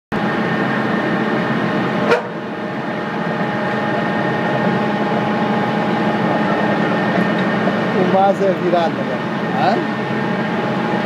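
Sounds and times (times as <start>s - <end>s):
auger mechanical hum: 0.1s - 11.0s.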